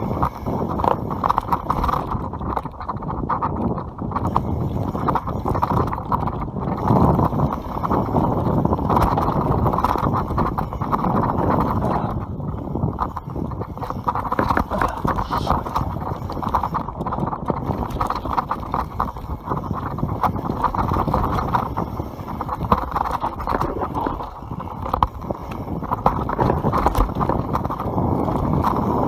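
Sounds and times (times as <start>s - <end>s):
bike chain and frame clattering: 0.0s - 29.0s
tyres over stones and roots: 0.0s - 29.0s.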